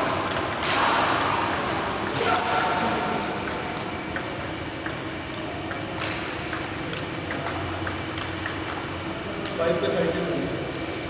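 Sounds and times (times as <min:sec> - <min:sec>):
table tennis balls bouncing: 0:00.0 - 0:09.6.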